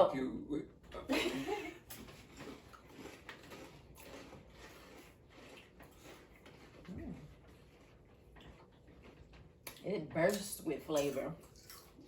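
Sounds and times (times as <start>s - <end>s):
people chewing potato chips: 0.8s - 12.0s.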